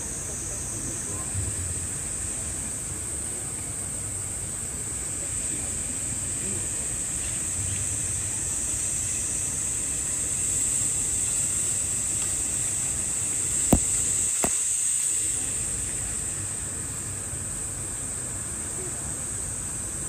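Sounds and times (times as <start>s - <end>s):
cicada chorus buzzing: 0.0s - 20.0s.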